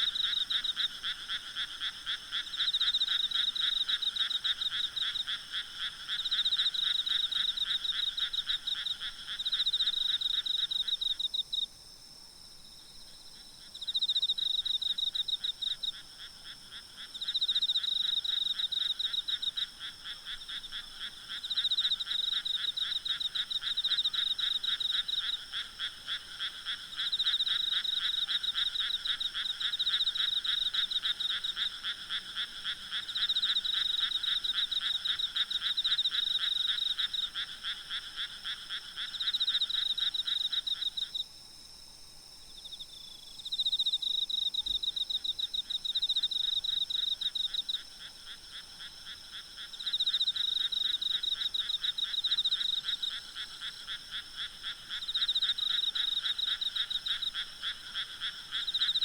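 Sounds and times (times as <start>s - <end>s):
frogs trilling: 0.0s - 11.7s, 13.6s - 41.2s, 42.6s - 59.0s
faint high insect whine: 0.0s - 59.0s.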